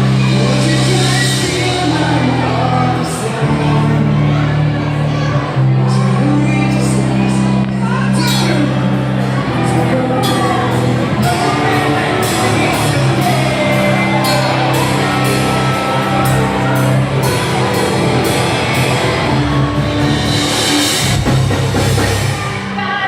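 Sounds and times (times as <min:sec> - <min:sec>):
heavy rock band playing: 0:00.0 - 0:23.0.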